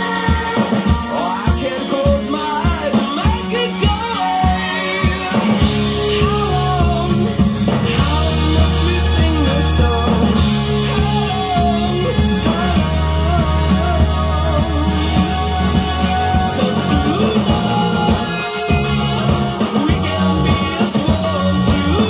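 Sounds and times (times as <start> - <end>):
rock song with singing: 0.0 - 22.0.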